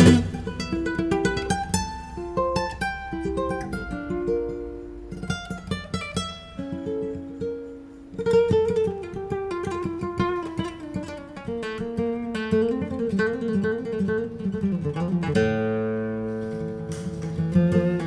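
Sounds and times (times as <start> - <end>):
plucked string instrument melody: 0.0 - 18.0.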